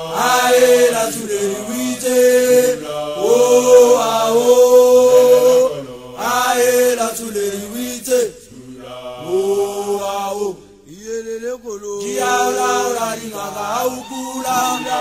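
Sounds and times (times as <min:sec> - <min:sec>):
voices chanting a song: 0:00.0 - 0:10.7, 0:12.0 - 0:15.0.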